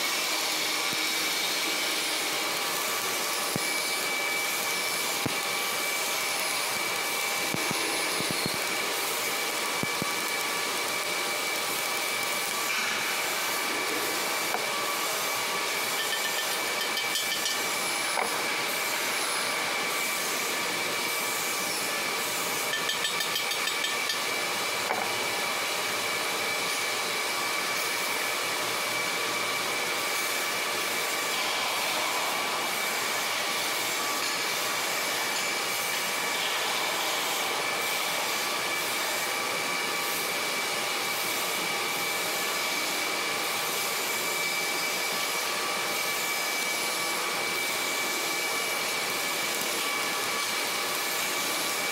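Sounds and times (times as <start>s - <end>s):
machine rushing with high whine: 0.0s - 51.9s.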